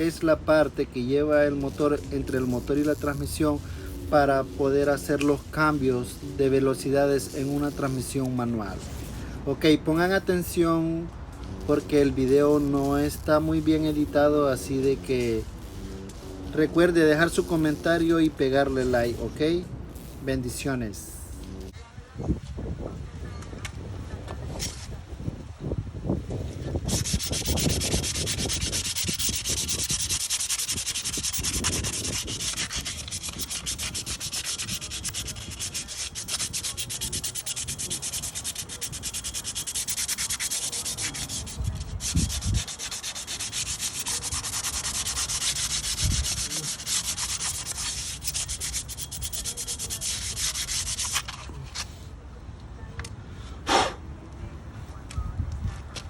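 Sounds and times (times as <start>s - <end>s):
scratchy hand sanding: 0.0s - 21.7s, 26.8s - 52.0s.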